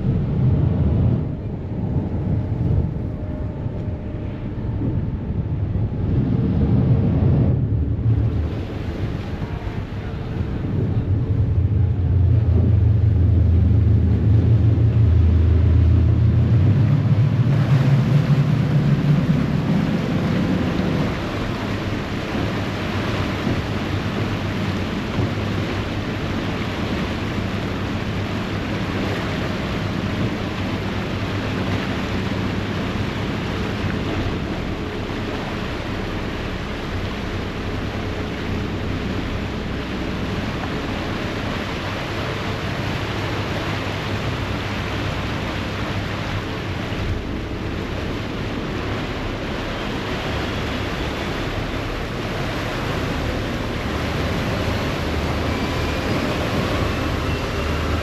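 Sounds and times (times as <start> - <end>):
ferry engines droning: 0.0 - 58.0
propeller wash churning water: 0.0 - 58.0
wind on microphone: 0.0 - 58.0.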